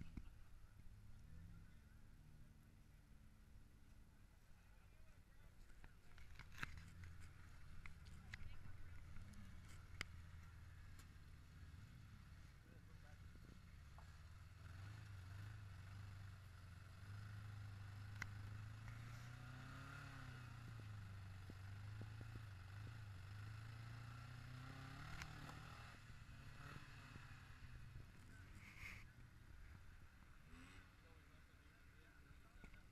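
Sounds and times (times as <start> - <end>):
muffled buggy engine revving: 5.5 - 32.9.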